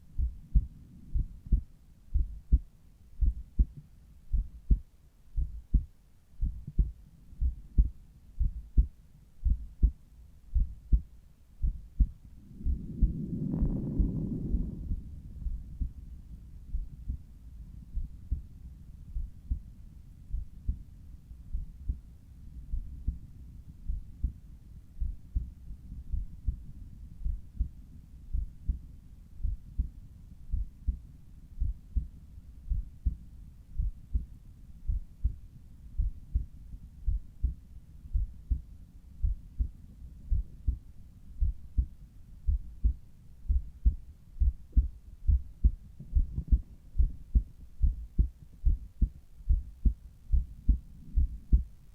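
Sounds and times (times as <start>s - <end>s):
heartbeat thuds: 0.0s - 19.7s, 20.3s - 20.8s, 21.4s - 22.0s, 22.7s - 24.4s, 25.0s - 51.9s.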